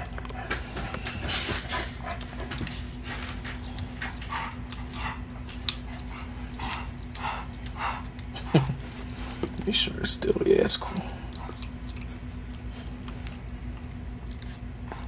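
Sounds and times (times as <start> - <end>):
puppy lapping and smacking: 0.0 - 15.0.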